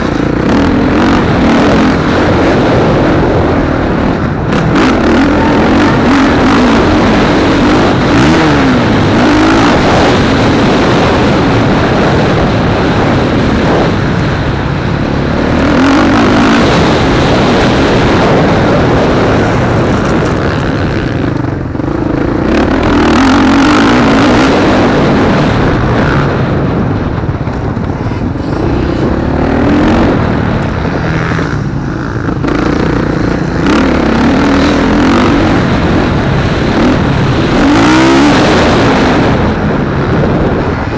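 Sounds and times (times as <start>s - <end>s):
motocross motorcycles revving: 0.0s - 40.9s.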